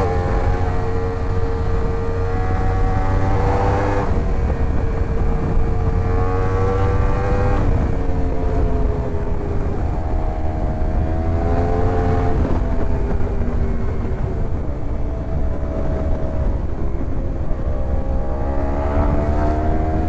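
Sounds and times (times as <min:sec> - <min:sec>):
motorcycle engine shifting gears: 0:00.0 - 0:20.0.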